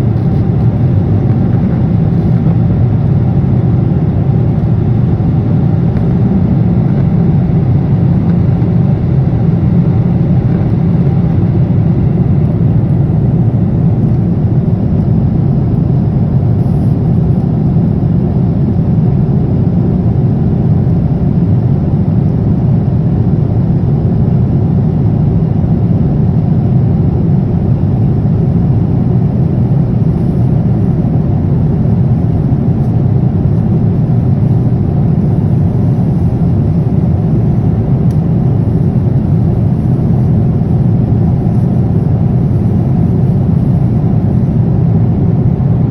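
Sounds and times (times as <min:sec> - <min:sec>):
jet airliner cabin rumble: 0:00.0 - 0:45.9.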